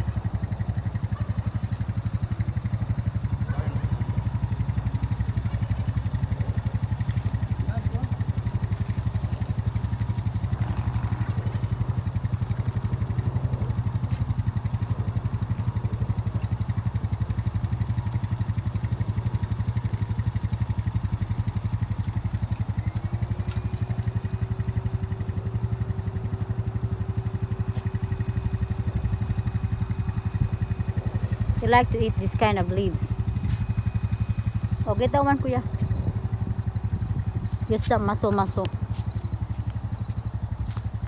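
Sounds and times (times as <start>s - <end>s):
small engine idling: 0.0s - 41.0s.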